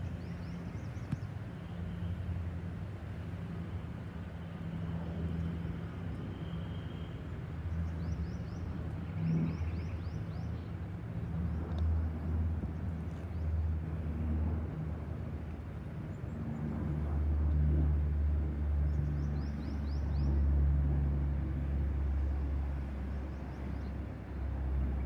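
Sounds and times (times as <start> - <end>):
propeller aircraft rumble: 0.0 - 25.0.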